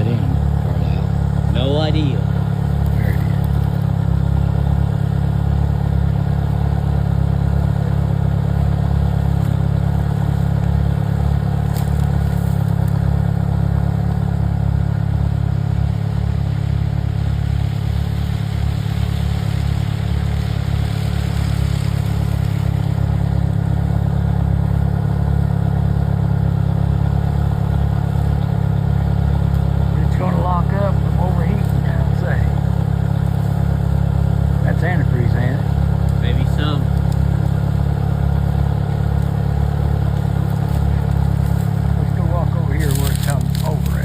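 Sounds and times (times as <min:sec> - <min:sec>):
vehicle engine humming: 0:00.0 - 0:44.0.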